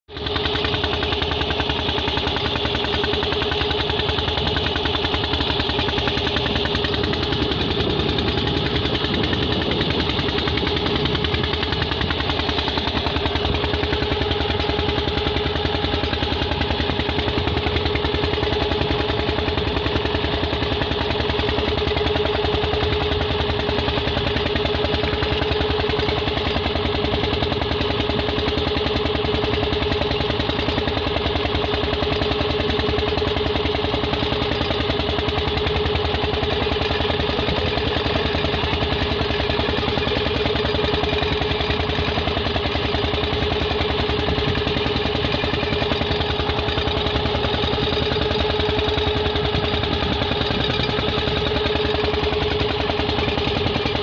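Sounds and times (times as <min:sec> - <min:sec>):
boat engine running: 0:00.1 - 0:54.0.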